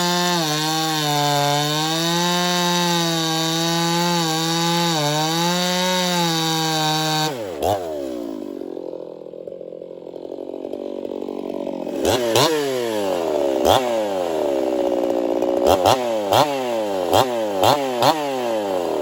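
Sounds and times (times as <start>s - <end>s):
chainsaw cutting log: 0.0s - 19.0s.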